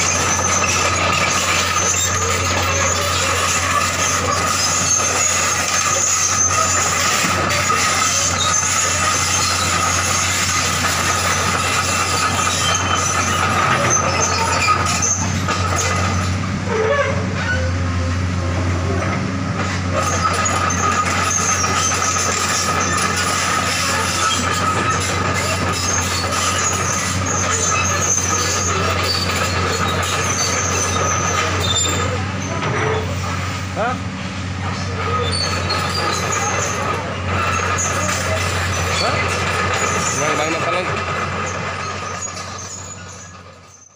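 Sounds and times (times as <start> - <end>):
diesel engine humming: 0.0 - 43.9
steel tracks squealing and clattering: 0.0 - 43.9.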